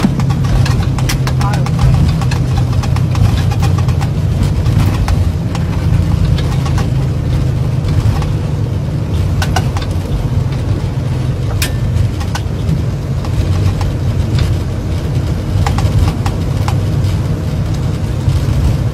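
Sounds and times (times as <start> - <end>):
aircraft engine rumble: 0.0 - 18.9
light clicks and rattles: 0.0 - 18.9.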